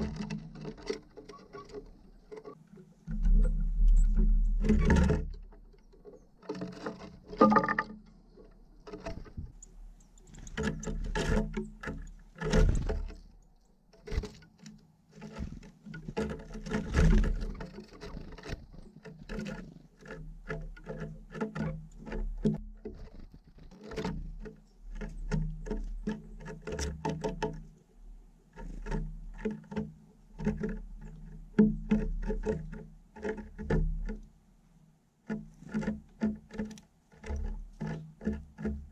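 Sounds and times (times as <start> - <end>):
birds pecking on wooden tray: 0.0 - 27.8, 35.2 - 38.9.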